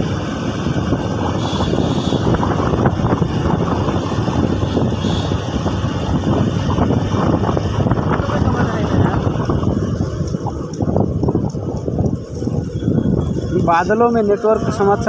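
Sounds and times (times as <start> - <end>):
motorcycle road noise: 0.0 - 15.0
wind buffeting microphone: 0.0 - 15.0.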